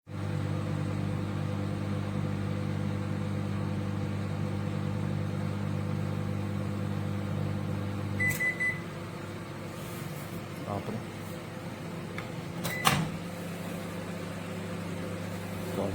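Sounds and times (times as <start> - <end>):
microwave oven humming: 0.1 - 15.9.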